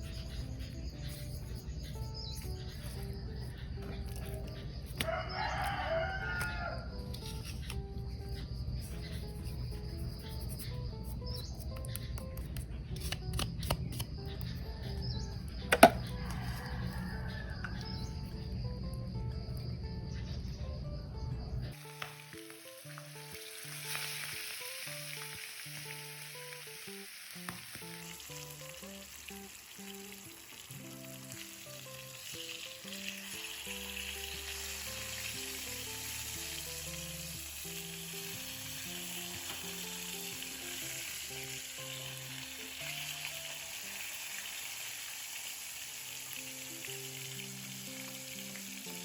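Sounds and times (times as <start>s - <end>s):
fish sizzling in hot oil: 0.0s - 3.7s, 4.3s - 10.0s, 14.2s - 17.7s, 21.7s - 49.0s
light background melody: 0.0s - 49.0s.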